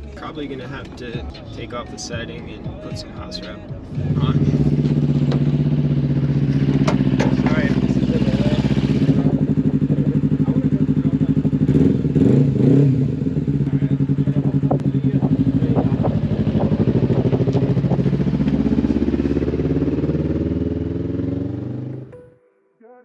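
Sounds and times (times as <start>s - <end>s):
truck engine running: 0.0s - 22.1s.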